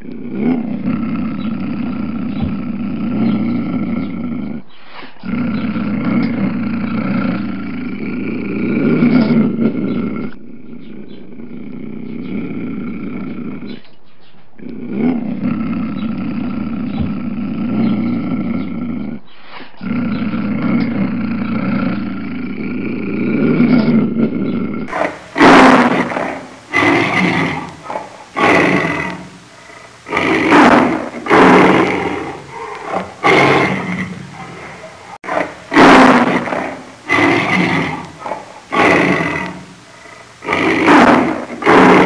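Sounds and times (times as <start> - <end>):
lion growling: 0.0 - 42.0
lion roaring: 0.0 - 42.0.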